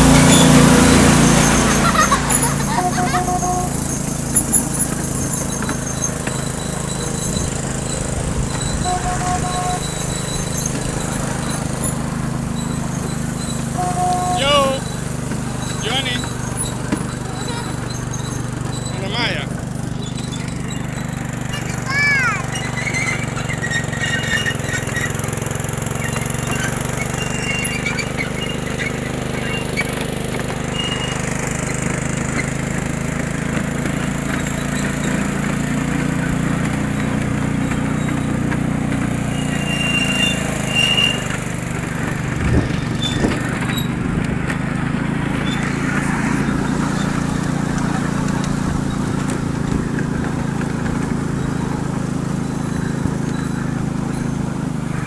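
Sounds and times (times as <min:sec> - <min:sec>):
miniature train drone and rattle: 0:00.0 - 0:55.0
wheel squeals: 0:00.0 - 0:55.0.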